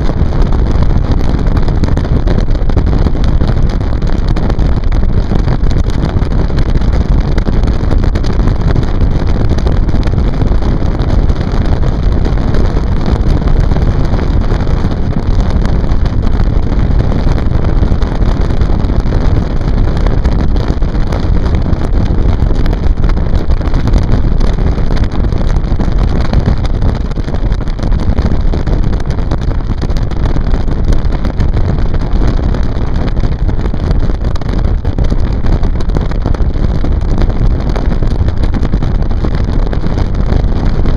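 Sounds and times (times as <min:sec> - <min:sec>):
motorboat engine and water rush: 0:00.0 - 0:40.9
wind buffeting microphone: 0:00.0 - 0:40.9.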